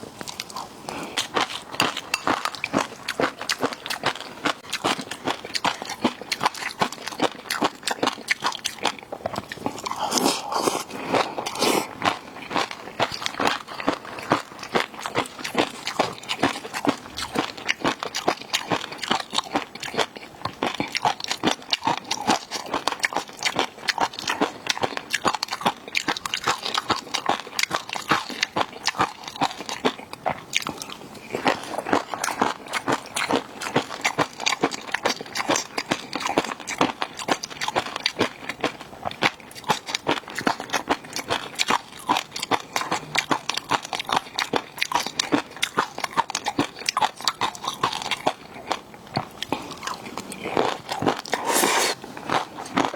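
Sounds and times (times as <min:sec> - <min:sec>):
crunching and chewing food: 0:00.0 - 0:52.9.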